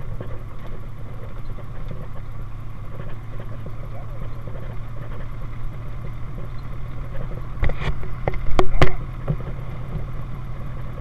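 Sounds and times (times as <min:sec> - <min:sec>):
car engine running: 0:00.0 - 0:11.0
tyres rolling on gravel: 0:00.0 - 0:11.0.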